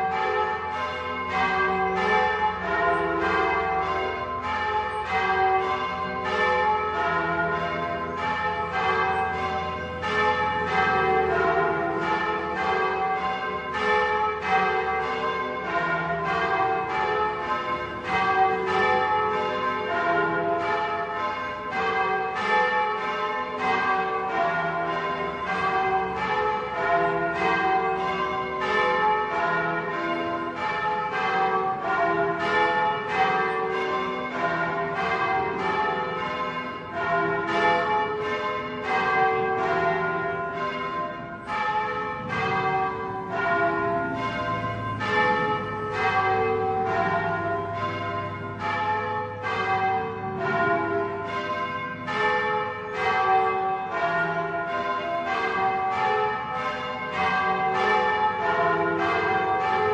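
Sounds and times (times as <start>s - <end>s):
church bells ringing: 0.0s - 59.9s.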